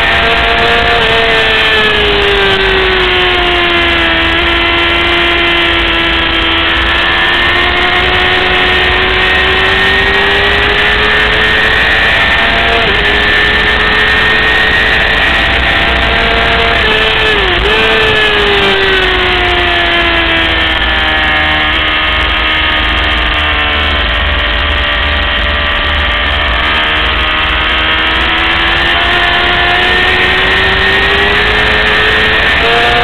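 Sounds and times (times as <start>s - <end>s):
racing motorcycle engine revving: 0.0s - 33.0s.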